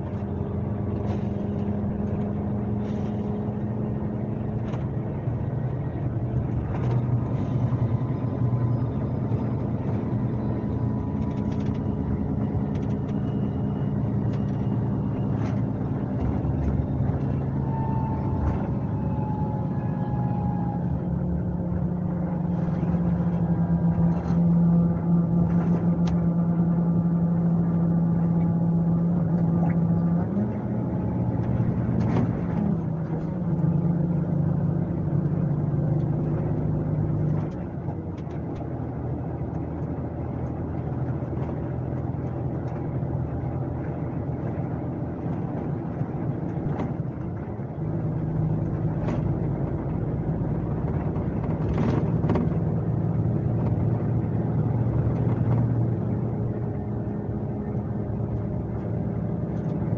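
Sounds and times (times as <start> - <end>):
diesel coach engine droning: 0.0 - 59.9.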